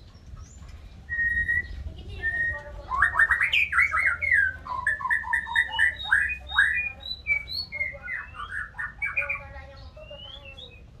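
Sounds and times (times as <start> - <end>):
bird singing whistled notes: 1.1 - 11.0.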